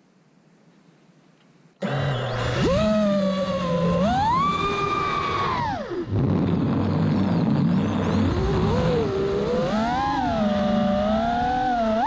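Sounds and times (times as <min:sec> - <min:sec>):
drone motors whining: 0:01.8 - 0:12.0.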